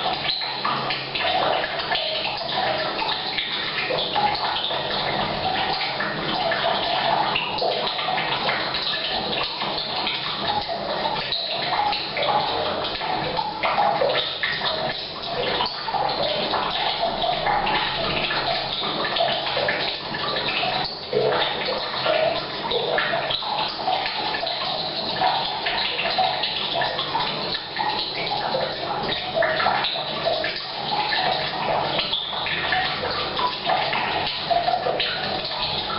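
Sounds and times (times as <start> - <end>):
rain falling on a roof: 0.0 - 35.9
water running from a pipe into a tank: 0.0 - 35.9.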